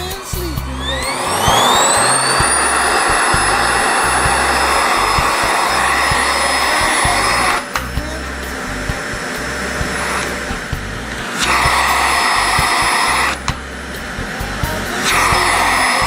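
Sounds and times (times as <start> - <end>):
vacuum cleaner motor: 0.0 - 7.8, 9.0 - 16.0.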